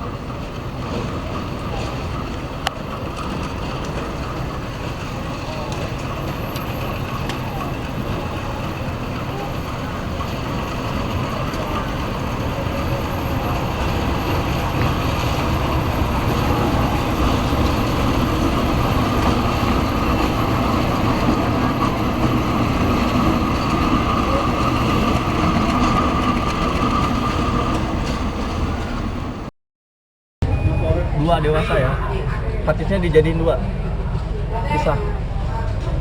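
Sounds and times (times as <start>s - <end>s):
train rumbling: 0.0s - 29.5s, 30.4s - 36.0s.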